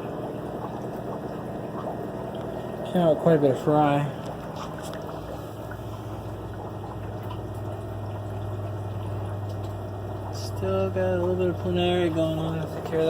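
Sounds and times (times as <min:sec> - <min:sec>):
electric pump hum: 0:00.0 - 0:13.0
water bubbling and trickling: 0:00.0 - 0:13.0.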